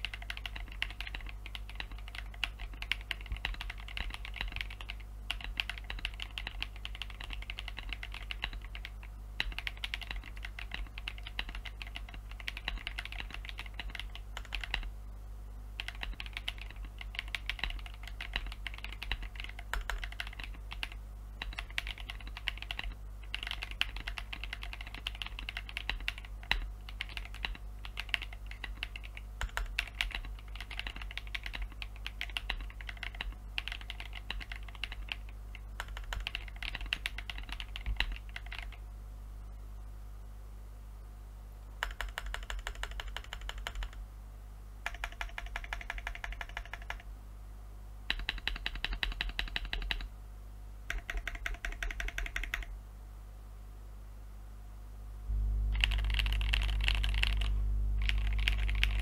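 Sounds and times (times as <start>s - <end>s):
mechanical keyboard typing: 0.0s - 14.9s, 15.8s - 38.8s, 41.8s - 44.0s, 44.8s - 47.1s, 48.1s - 50.1s, 50.9s - 52.7s, 55.8s - 59.0s.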